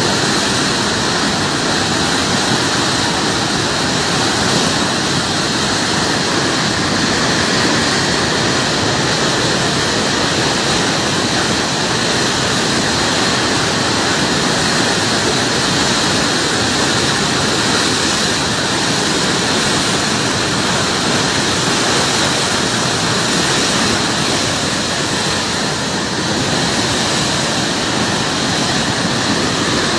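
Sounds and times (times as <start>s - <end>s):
floodwater rushing: 0.0s - 29.9s.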